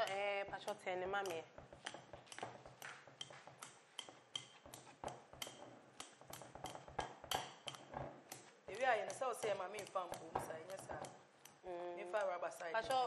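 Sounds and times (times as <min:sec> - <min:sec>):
fork clicking against glass bowl: 0:00.0 - 0:11.6
fork mashing potatoes: 0:00.0 - 0:13.0.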